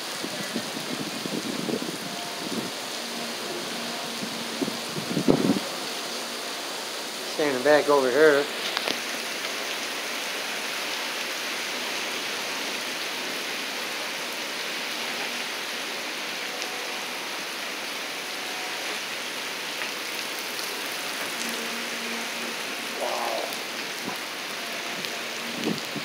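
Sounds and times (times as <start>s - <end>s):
heavy rain on pavement: 0.0s - 26.0s.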